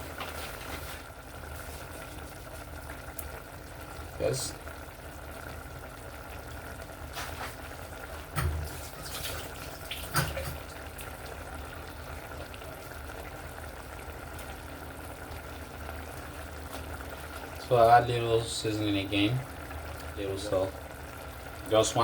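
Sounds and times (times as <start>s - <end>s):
pot bubbling on stove: 0.0s - 22.0s.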